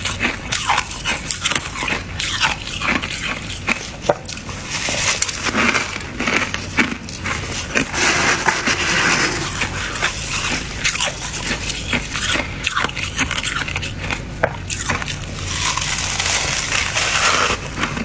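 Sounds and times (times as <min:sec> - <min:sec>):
freezer frost being scraped: 0:00.0 - 0:18.0.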